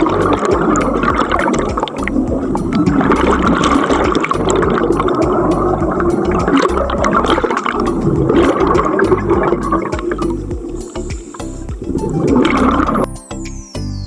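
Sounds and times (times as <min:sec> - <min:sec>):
steady low rumble: 0:00.0 - 0:13.1
underwater bubbles gurgling: 0:00.0 - 0:13.1.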